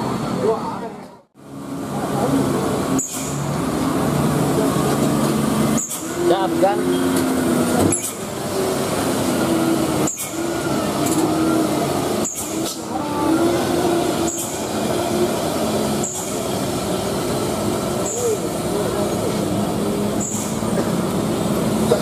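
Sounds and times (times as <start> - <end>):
diesel truck engines droning: 0.0 - 22.0
traffic hiss on wet road: 1.4 - 22.0.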